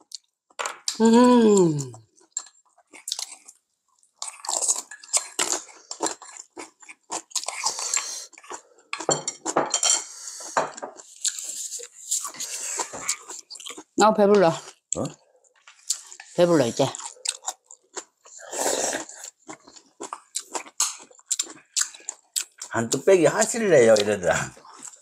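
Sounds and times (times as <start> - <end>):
chewing with crunches: 1.6 - 23.0, 23.8 - 25.0.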